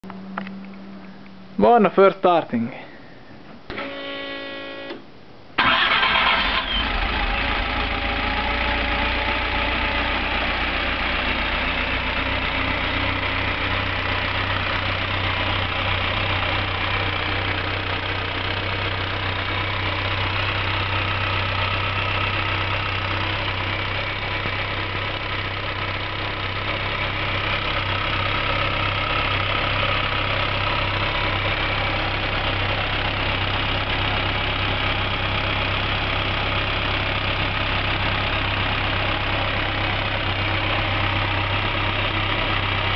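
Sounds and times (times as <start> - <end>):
car engine starting and running: 0.0 - 1.6, 3.6 - 42.9.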